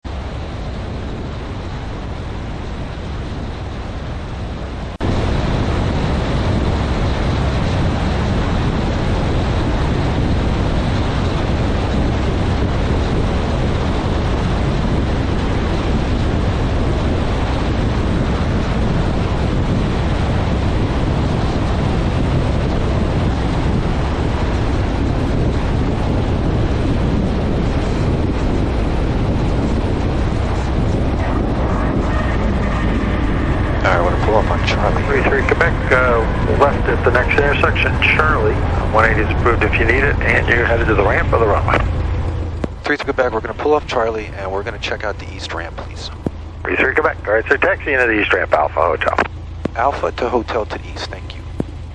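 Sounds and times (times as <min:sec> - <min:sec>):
aircraft engine and propeller: 0:00.0 - 0:51.9.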